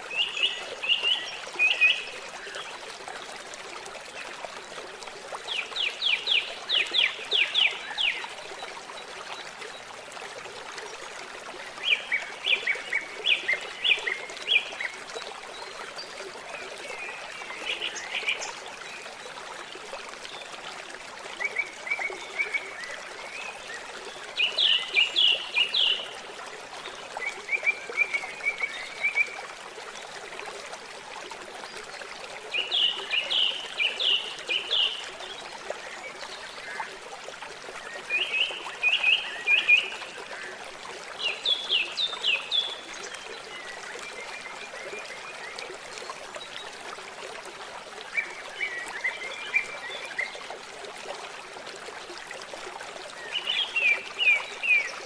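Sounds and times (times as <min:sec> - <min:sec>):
trickling water: 0:00.0 - 0:55.0.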